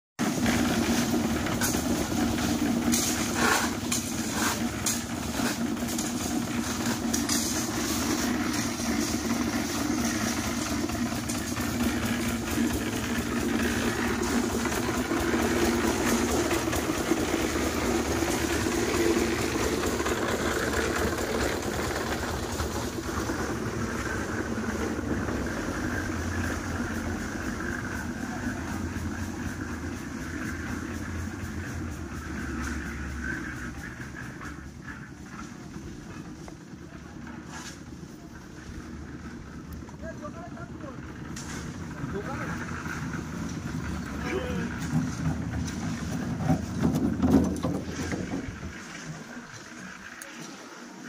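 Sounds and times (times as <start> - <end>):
concrete mixer engine running: 0.2 - 51.0.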